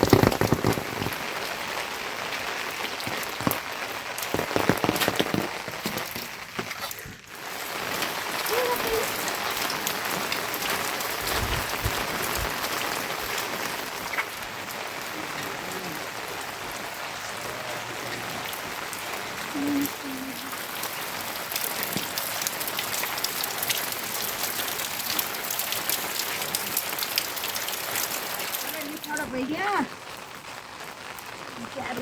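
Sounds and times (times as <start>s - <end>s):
rain pattering on surfaces: 0.0s - 32.0s.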